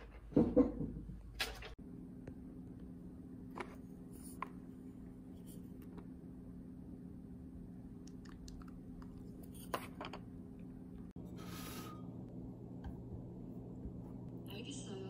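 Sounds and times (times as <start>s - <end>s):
steady low hum: 1.0s - 15.0s.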